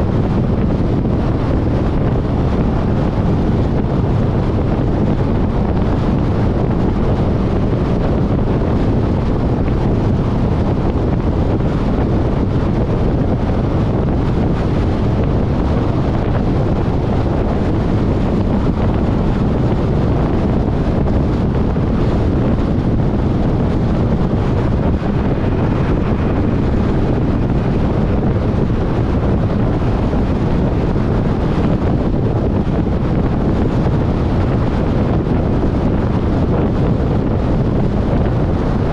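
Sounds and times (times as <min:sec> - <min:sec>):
car wind and road noise: 0:00.0 - 0:38.9.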